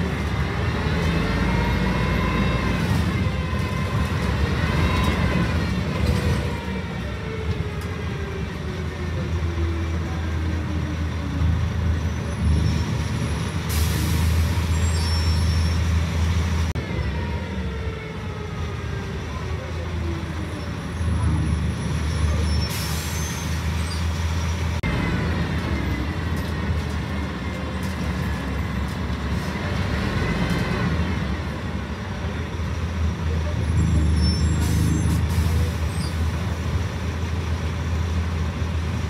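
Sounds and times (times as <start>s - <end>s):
bus diesel engine droning: 0.0s - 39.0s.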